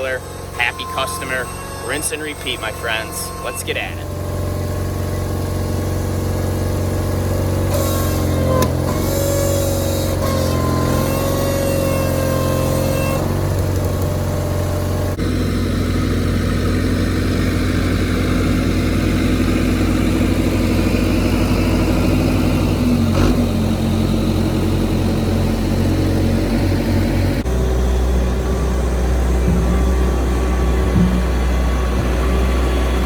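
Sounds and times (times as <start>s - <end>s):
heavy equipment engine running: 0.0s - 33.0s.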